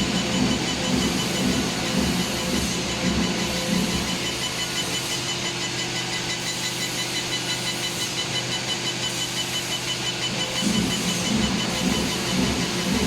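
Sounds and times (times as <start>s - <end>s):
welding equipment hum: 0.0s - 13.0s.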